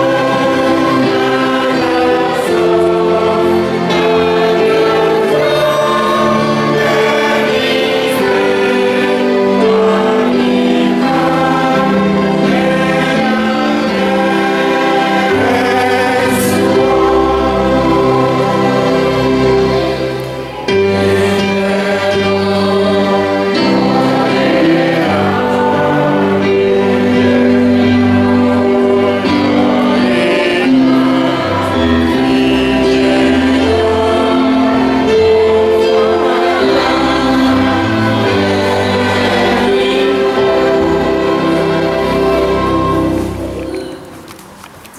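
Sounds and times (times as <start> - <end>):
choir singing a hymn: 0.0 - 44.2.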